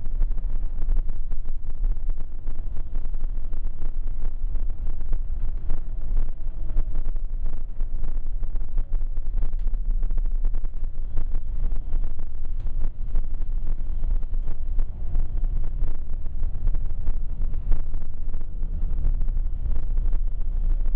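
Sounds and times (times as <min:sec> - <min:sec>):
low cabin rumble: 0:00.0 - 0:20.9.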